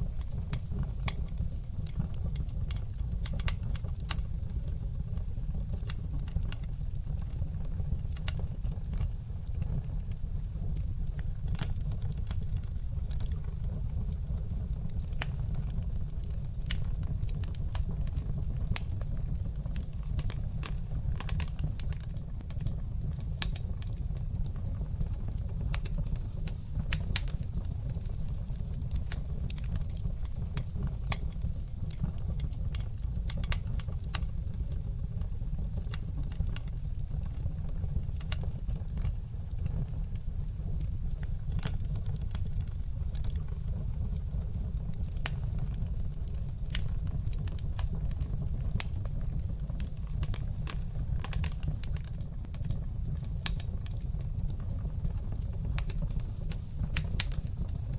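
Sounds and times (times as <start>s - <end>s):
fire burning in a fireplace: 0.0s - 57.9s.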